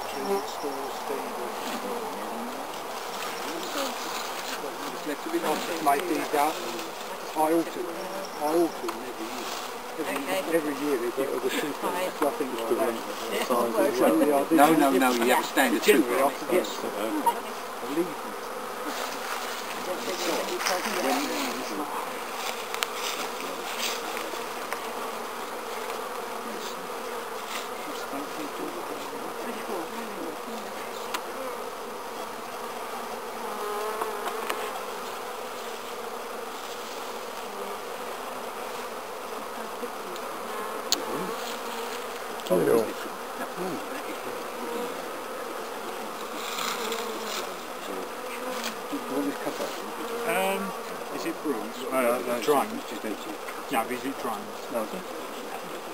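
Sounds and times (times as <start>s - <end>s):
bees humming: 0.0s - 55.9s.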